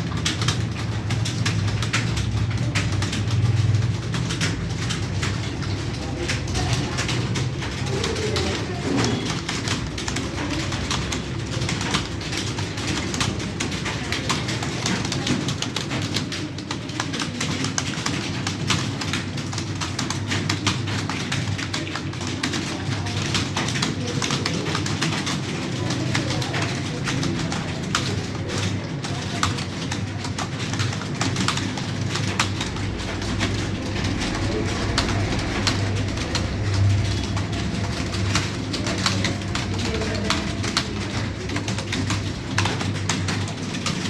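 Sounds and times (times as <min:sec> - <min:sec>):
fast computer keyboard typing: 0:00.0 - 0:44.0.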